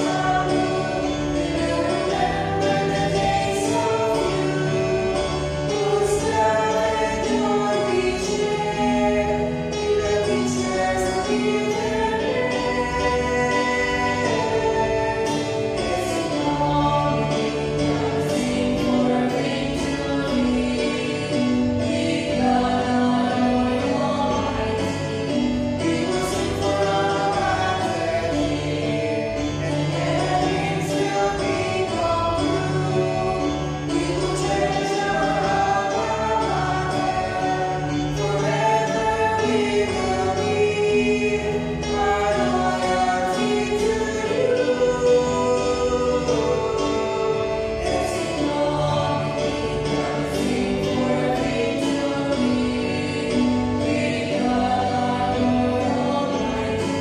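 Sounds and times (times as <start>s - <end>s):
choir singing a hymn: 0.0s - 57.0s
low instrumental accompaniment: 0.0s - 57.0s.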